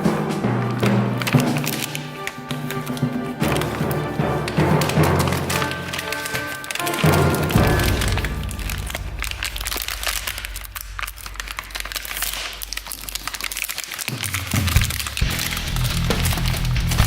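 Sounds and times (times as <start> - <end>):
background music: 0.0 - 12.7, 14.2 - 17.0
plastic crackling and clicking: 0.7 - 17.0.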